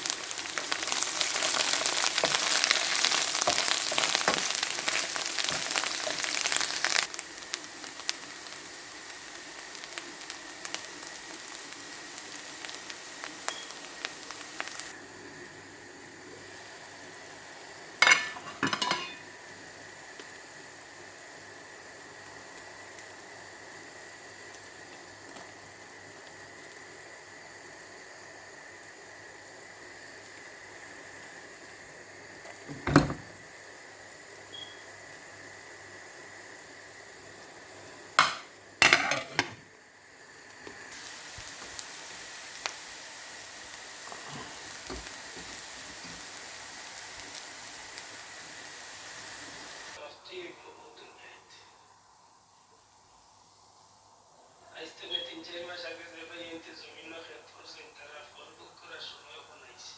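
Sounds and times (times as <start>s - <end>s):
curry sizzling in a pan: 0.0s - 59.7s.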